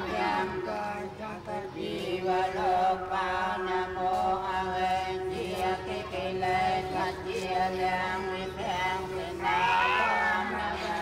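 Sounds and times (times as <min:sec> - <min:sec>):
voices chanting in a drone: 0:00.0 - 0:11.0.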